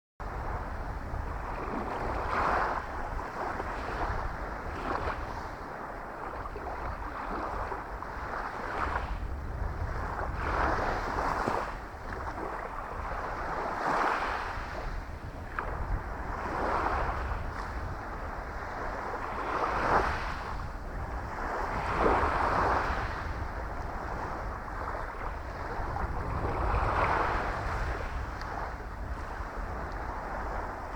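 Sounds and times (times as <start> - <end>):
small waves washing ashore: 0.2 - 30.9
wind rumbling on microphone: 0.2 - 30.9.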